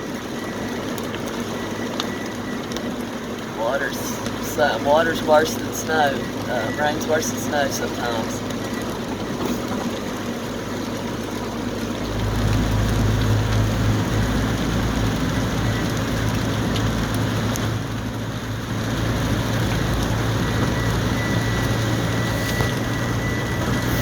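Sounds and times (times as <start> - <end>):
car engine and tyre rumble: 0.0 - 24.0
rain and wet road noise: 0.0 - 24.0.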